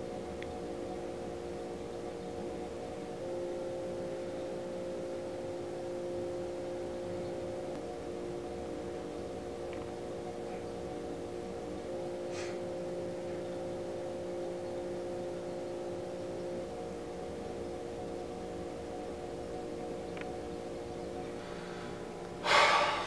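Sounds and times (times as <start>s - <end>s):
steady drone of held tones: 0.0s - 23.0s.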